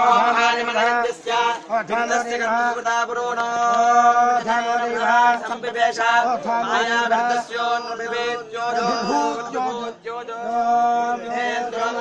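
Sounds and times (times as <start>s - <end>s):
man chanting on held notes: 0.0s - 12.0s.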